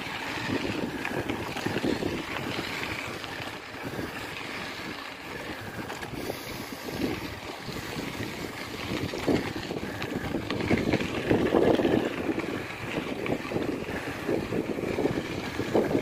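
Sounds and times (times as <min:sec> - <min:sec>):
bicycle rattling over bumps: 0:00.0 - 0:16.0
wind on microphone: 0:00.0 - 0:16.0.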